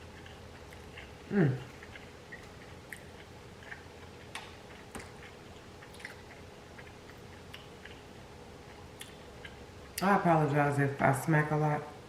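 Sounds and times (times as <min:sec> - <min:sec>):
chewing: 0:00.0 - 0:10.0.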